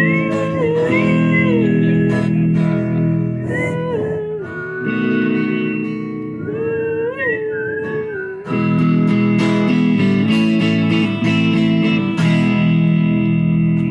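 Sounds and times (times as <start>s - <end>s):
held lead melody: 0.0s - 13.9s
strummed acoustic guitar chords: 0.0s - 13.9s.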